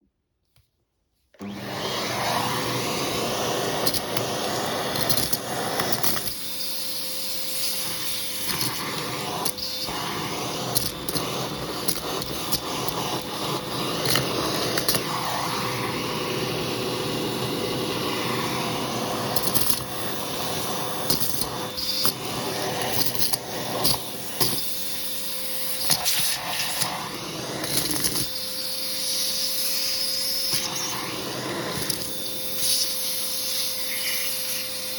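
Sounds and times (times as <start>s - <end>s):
vacuum cleaner running: 1.3s - 34.9s.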